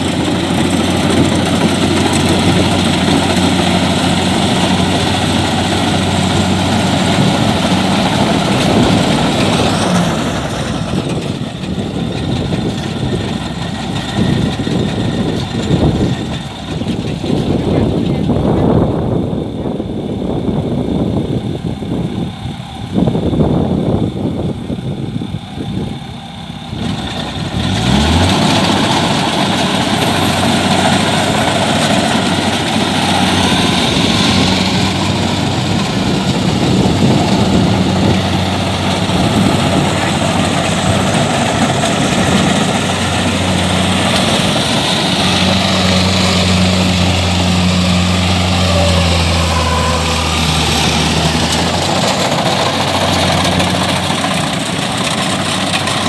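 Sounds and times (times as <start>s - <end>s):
diesel engine revving and droning: 0.0s - 56.0s.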